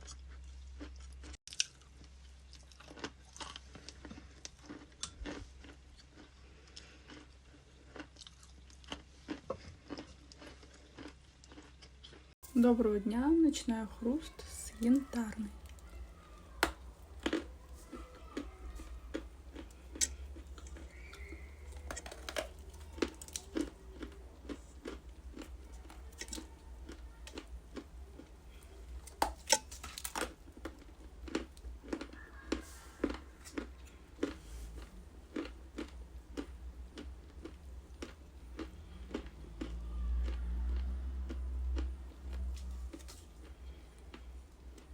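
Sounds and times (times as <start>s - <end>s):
ice crunching while chewed: 0.0s - 12.4s, 14.1s - 44.9s.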